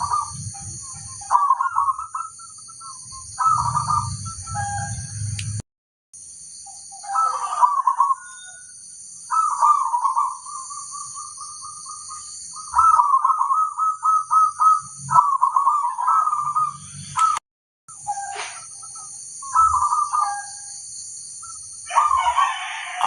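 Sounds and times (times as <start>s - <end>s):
dove cooing: 0.0s - 5.3s, 6.9s - 8.6s, 9.3s - 17.4s, 18.0s - 20.7s, 21.4s - 23.0s.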